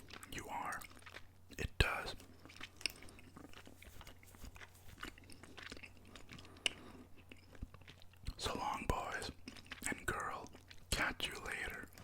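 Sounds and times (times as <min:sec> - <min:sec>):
soft chewing with wet clicks: 0:00.0 - 0:12.0.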